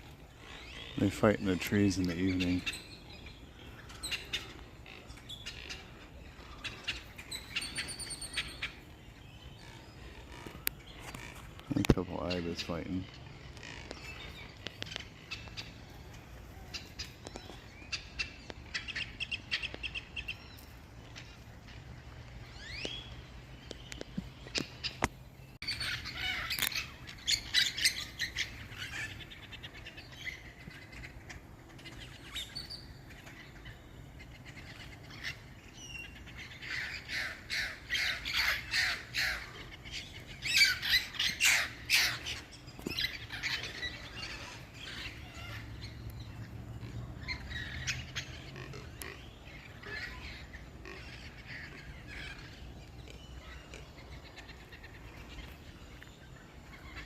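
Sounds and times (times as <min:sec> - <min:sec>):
parrots squawking and screeching: 0:00.1 - 0:22.9, 0:25.6 - 0:57.0.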